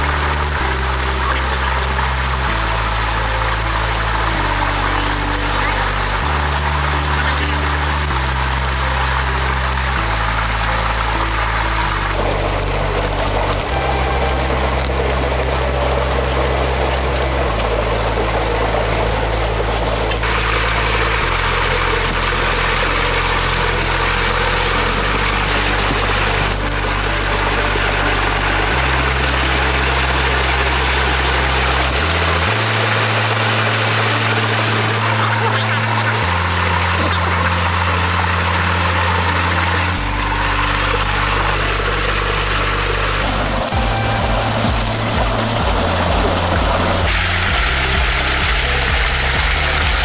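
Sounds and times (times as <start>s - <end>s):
low hum: 0.0s - 50.0s
music with low held notes: 0.0s - 50.0s
water rushing through a channel: 0.0s - 50.0s.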